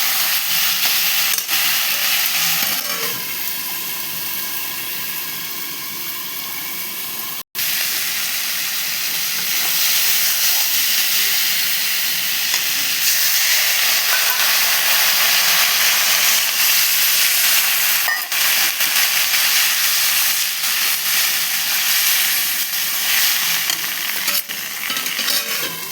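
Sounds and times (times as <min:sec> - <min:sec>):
curry sizzling in a hot pan: 0:00.0 - 0:25.9.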